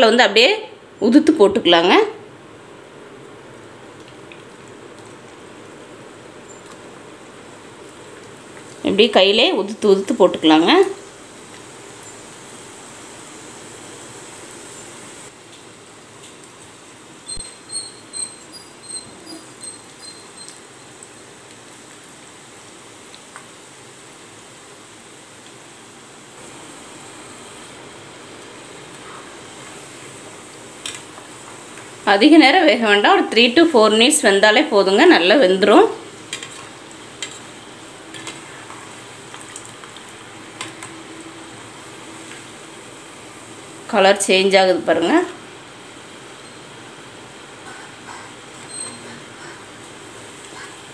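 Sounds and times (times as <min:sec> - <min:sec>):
hot oil sizzling: 0:00.1 - 0:50.9.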